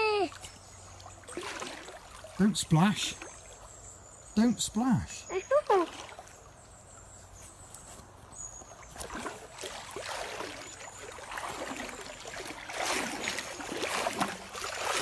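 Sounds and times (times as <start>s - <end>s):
legs wading through water: 0.0s - 4.6s, 5.3s - 15.0s.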